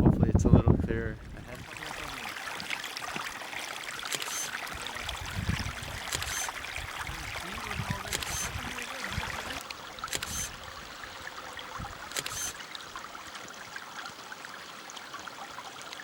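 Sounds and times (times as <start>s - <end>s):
small stream running water: 0.9s - 16.0s.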